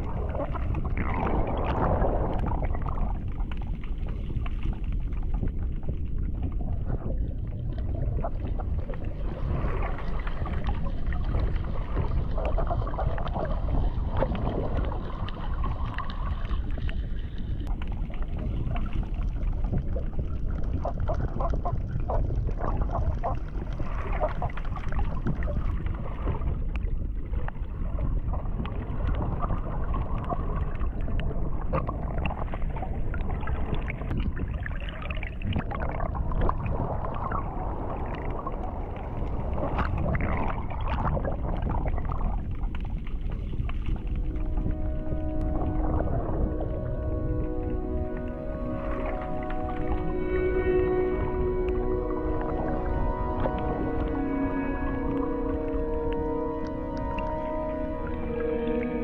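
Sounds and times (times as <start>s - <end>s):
low rumble of water: 0.0s - 59.0s
water sloshing and gurgling: 0.0s - 59.0s.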